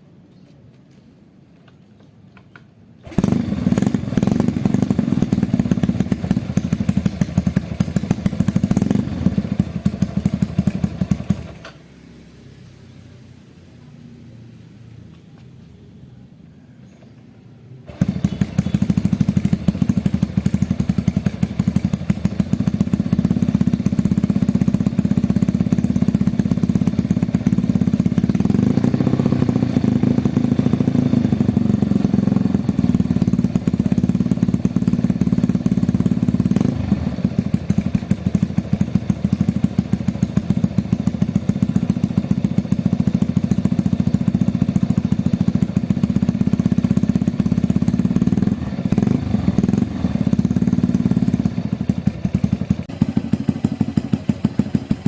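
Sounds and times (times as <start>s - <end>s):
motorcycle engine running: 3.0s - 11.8s, 17.9s - 55.0s.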